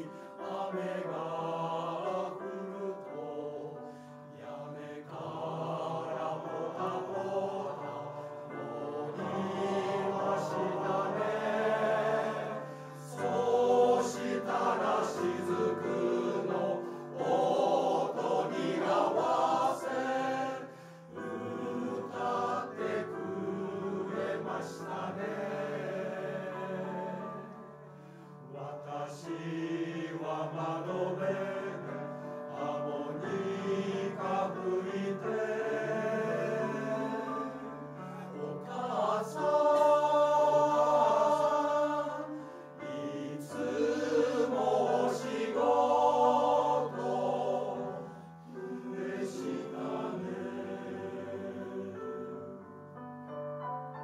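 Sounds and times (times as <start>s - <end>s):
men's choir singing: 0.0s - 52.6s.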